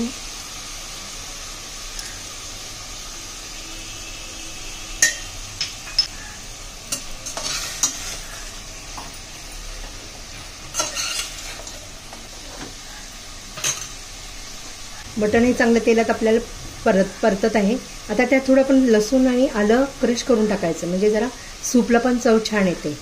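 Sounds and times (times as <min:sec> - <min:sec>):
bones sizzling in hot oil: 0:00.0 - 0:23.0.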